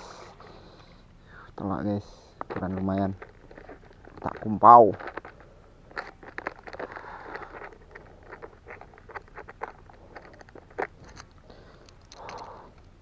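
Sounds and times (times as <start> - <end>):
fishing gear clicks and rustles: 0.3 - 13.0.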